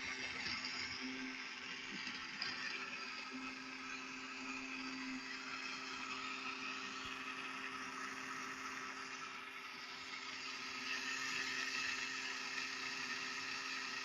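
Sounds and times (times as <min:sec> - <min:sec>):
small motor whirring: 0:00.0 - 0:14.0.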